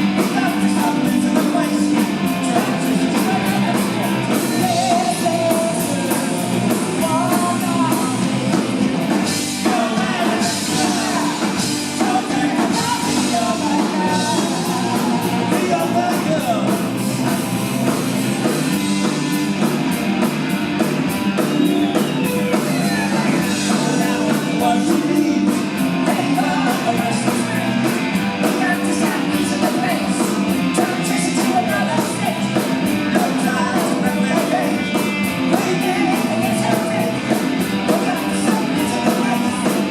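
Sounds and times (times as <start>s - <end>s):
punk rock band playing: 0.0s - 39.9s
person singing: 0.1s - 8.4s, 9.6s - 16.9s, 21.6s - 39.9s.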